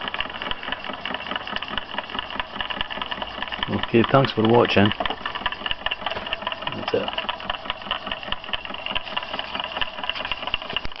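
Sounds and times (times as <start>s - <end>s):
engine linkage clicking rhythmically: 0.0s - 11.0s.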